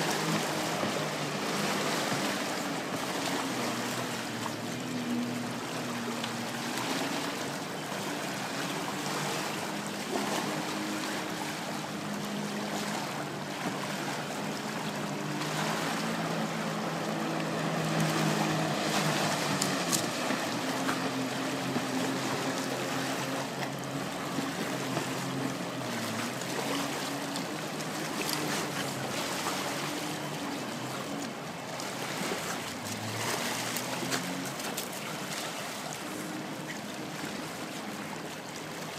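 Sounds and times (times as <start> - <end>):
choppy water: 0.0 - 38.9
jet ski engines droning: 0.0 - 38.9.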